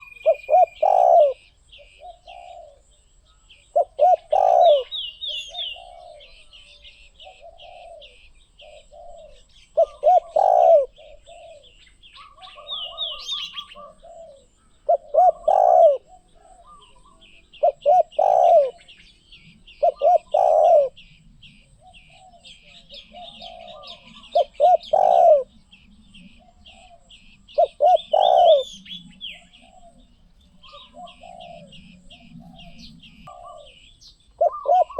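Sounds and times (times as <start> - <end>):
dove cooing: 0.0 - 34.9
small birds chirping: 0.0 - 34.9.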